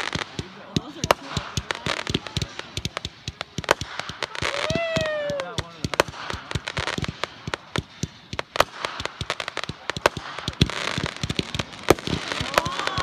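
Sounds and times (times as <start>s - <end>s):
fireworks pops and crackles: 0.0s - 13.0s.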